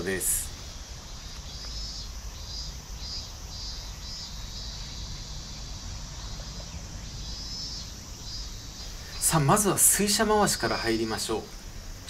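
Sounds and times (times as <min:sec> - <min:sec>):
insects trilling: 0:00.0 - 0:12.0
steady low rumble: 0:00.0 - 0:12.0.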